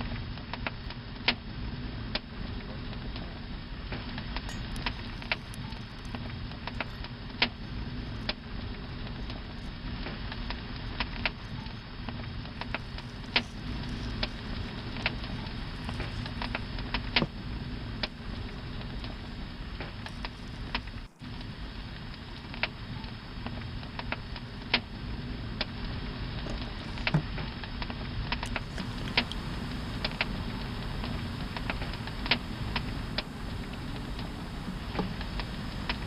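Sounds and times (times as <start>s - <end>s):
campfire crackling: 0.0s - 36.0s
low rumble and hiss: 0.0s - 36.0s.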